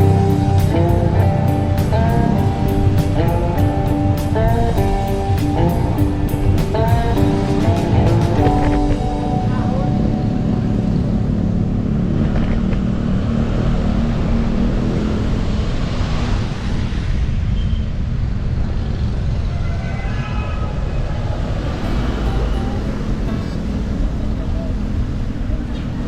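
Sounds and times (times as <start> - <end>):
road and traffic noise: 0.0 - 26.0.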